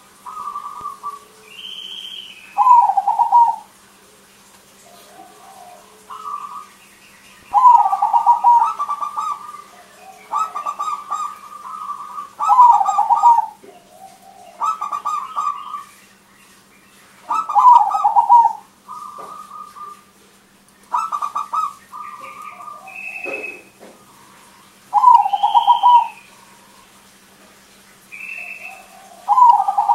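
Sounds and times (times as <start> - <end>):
dove cooing: 0.0 - 6.8, 7.4 - 15.9, 17.2 - 20.2, 20.8 - 27.0, 28.1 - 29.9
faint steady hum: 0.0 - 29.9.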